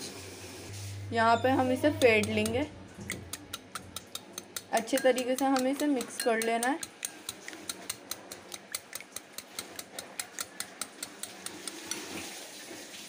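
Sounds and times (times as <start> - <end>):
whisk beating eggs in a bowl: 1.6 - 12.2.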